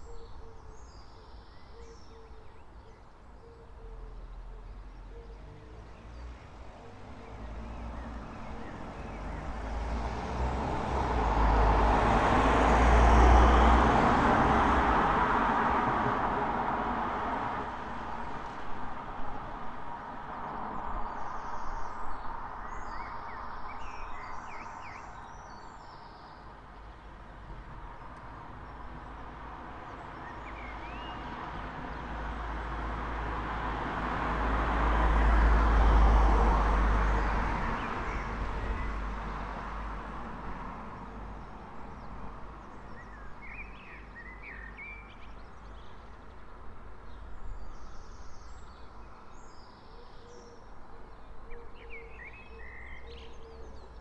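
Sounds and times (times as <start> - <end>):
road vehicle passing: 4.4 - 49.9.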